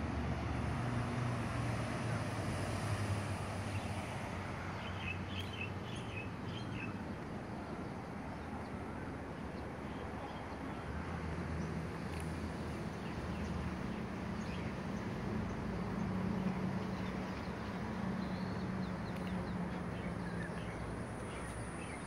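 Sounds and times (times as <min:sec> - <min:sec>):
outdoor background hum: 0:00.0 - 0:22.0.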